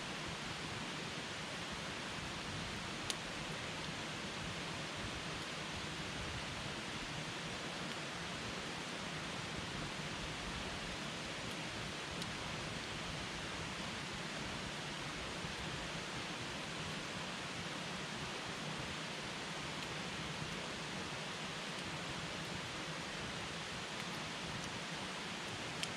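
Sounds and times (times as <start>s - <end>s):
campfire hissing and crackling: 0.0s - 25.9s.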